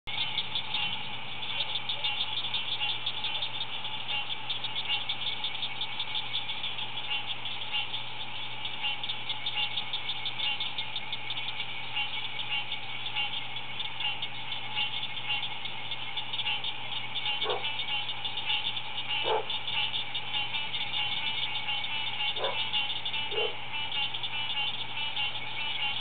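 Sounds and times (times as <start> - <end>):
chorus of frogs calling: 0.1 - 26.0.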